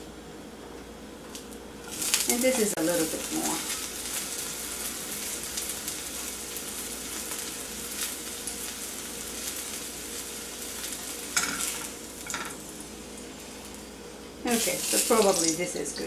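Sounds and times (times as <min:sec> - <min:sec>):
food sizzling in oil: 0:01.8 - 0:16.0.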